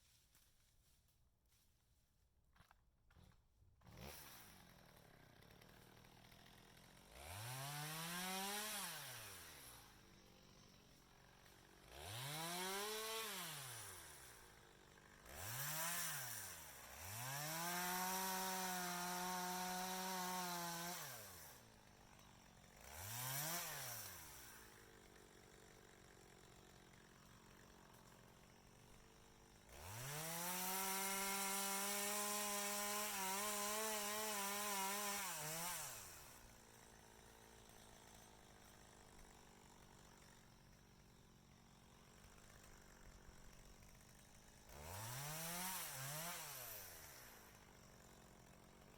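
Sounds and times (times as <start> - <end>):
chainsaw revving: 3.8 - 48.9.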